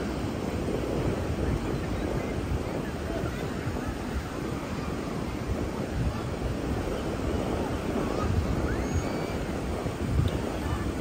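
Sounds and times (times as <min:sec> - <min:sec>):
ocean surf washing on beach: 0:00.0 - 0:11.0
wind buffeting microphone: 0:00.0 - 0:11.0.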